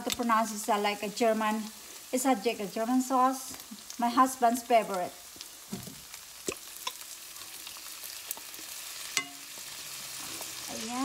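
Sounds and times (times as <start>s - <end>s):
onions sizzling in a skillet: 0.0s - 11.0s.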